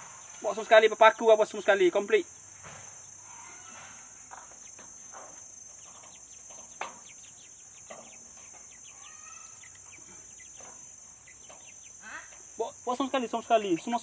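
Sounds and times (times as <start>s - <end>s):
birds chirping: 0.0s - 14.0s
high insect drone: 0.0s - 14.0s.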